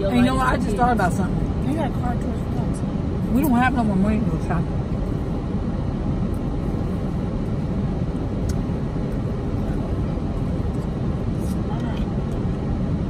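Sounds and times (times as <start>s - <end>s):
low rumble inside car cabin: 0.0s - 13.0s.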